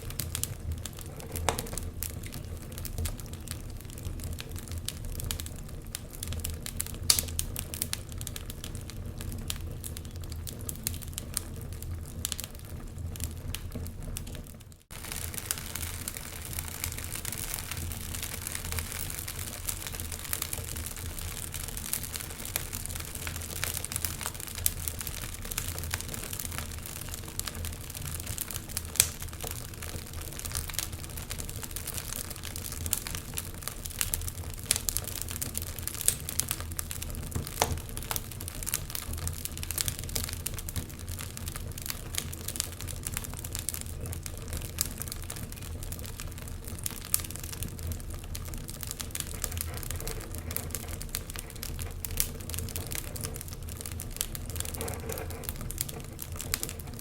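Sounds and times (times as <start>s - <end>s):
fire popping: 0.0s - 57.0s
wood fire crackling: 0.0s - 57.0s.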